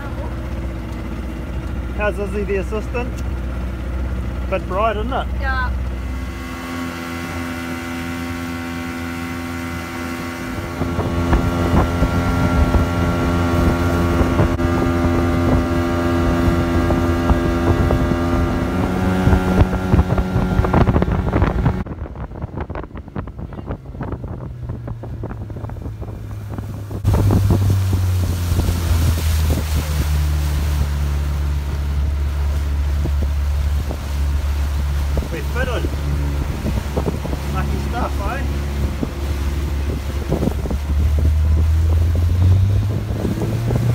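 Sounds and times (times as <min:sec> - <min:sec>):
motorboat engine running: 0:00.0 - 0:43.9
wind on microphone: 0:06.0 - 0:43.9.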